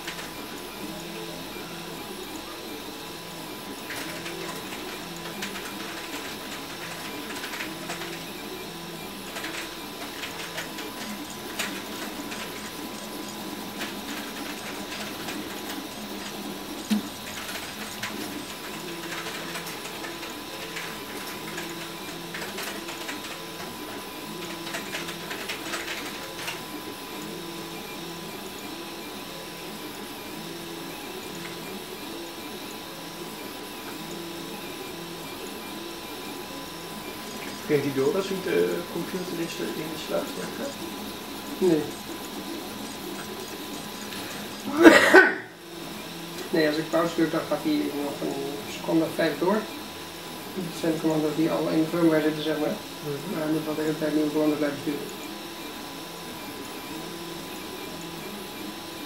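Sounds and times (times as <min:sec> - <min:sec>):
stepper motors whirring and buzzing: 0:00.0 - 0:59.0.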